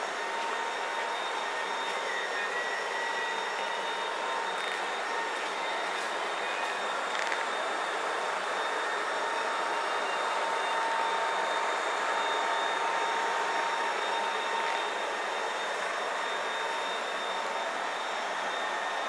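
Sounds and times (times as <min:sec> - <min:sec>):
floor burnisher whirring: 0:00.0 - 0:19.0.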